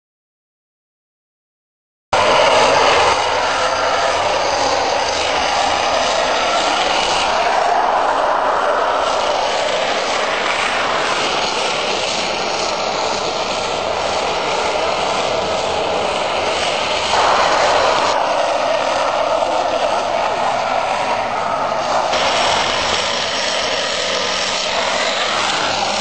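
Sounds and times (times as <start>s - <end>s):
cart wheels rolling on asphalt: 2.2s - 26.0s.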